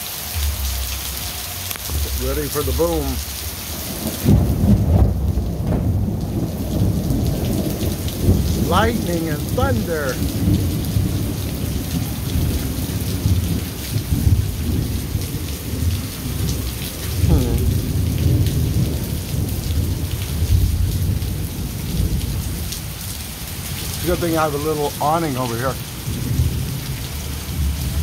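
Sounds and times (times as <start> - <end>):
heavy rain hissing: 0.0 - 28.0
thunder rolling: 1.9 - 23.0, 23.8 - 28.0.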